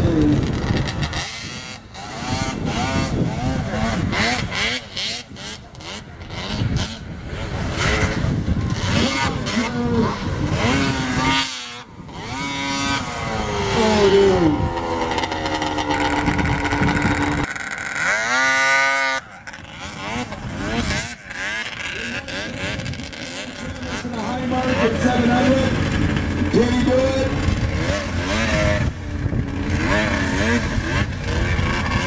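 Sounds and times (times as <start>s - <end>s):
snowmobile engines revving: 0.0s - 32.0s.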